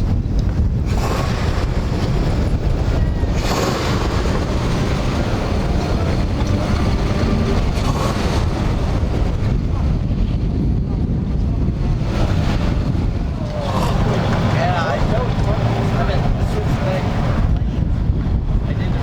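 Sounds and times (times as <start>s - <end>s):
vehicle engines running: 0.0s - 19.0s
wind rumbling on microphone: 0.0s - 19.0s.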